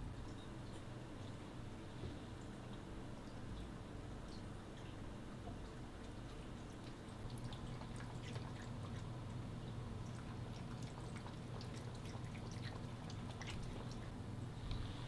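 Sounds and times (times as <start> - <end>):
faint low hum: 0.0 - 15.0
cat lapping water: 2.2 - 14.3.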